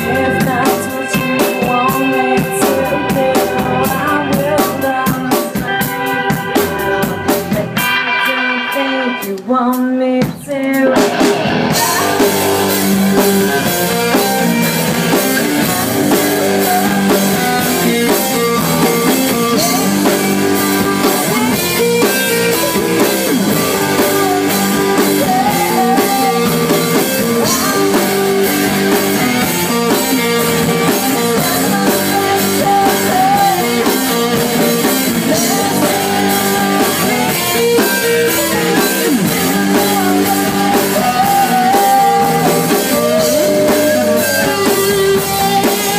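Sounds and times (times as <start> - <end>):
drum kit beat: 0.0 - 45.9
electric guitar: 0.0 - 45.9
man singing: 0.0 - 45.9.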